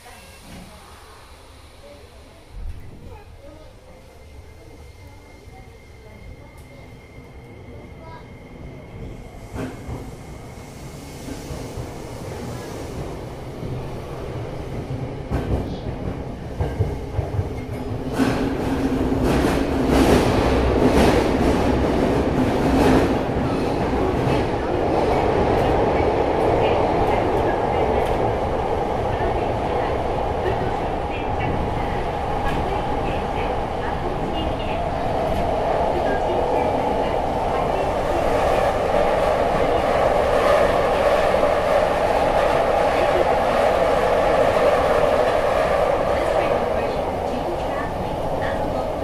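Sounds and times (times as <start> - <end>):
subway wheels rumbling on rail: 0.0 - 49.0.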